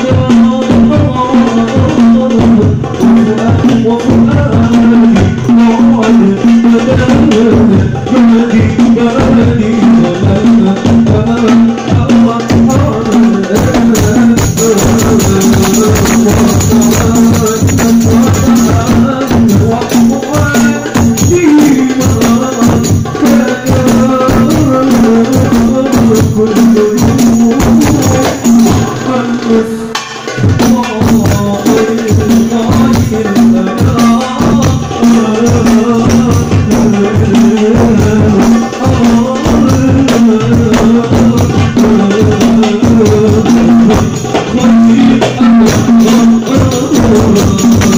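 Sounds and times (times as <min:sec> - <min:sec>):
frame drums playing rhythm: 0:00.0 - 0:47.9
man singing through a microphone: 0:00.0 - 0:47.9.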